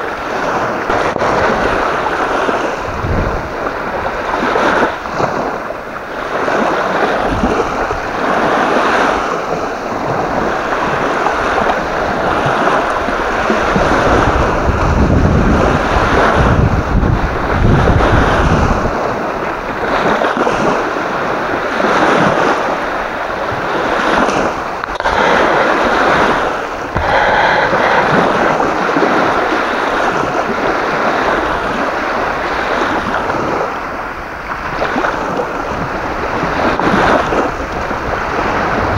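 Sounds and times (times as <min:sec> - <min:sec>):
gusty wind on microphone: 0:00.0 - 0:38.9
waves washing at shore: 0:00.0 - 0:38.9.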